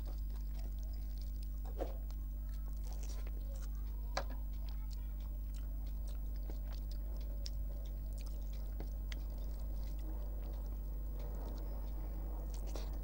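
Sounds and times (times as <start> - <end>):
low steady hum: 0.0 - 13.0
person chewing: 0.0 - 13.0.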